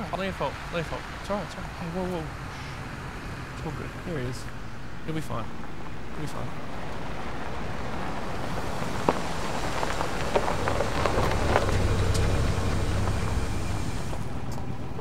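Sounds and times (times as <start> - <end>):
car engine running: 0.0 - 15.0
tyres crackling over ground: 0.0 - 15.0.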